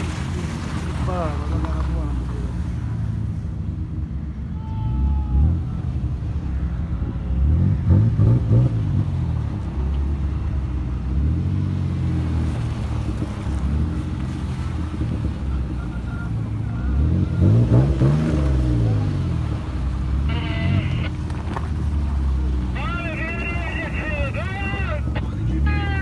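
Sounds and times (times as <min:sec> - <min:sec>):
off-road engines revving: 0:00.0 - 0:26.0.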